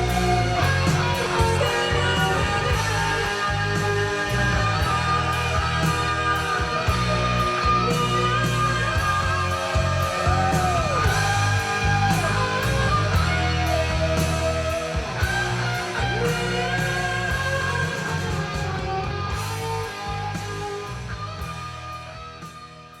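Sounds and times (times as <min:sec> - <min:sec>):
heavy bass: 0:00.0 - 0:23.0
rock music with bending guitar: 0:00.0 - 0:23.0.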